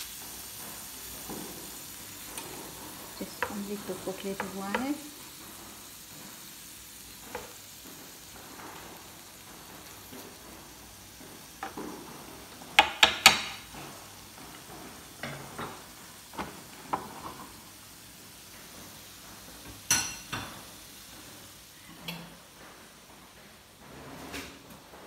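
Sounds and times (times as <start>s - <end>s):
seafood sizzling on a grill: 0.0s - 23.1s.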